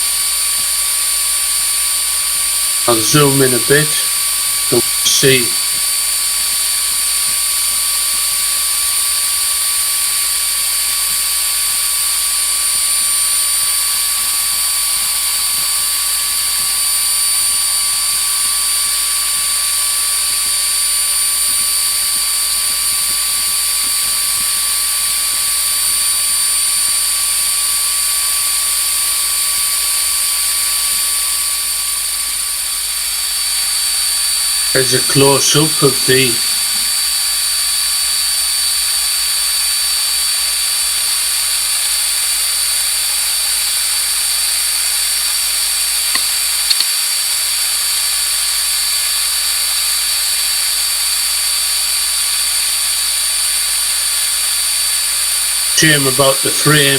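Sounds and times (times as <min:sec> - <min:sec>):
router motor high-pitched whine: 0:05.6 - 0:56.9.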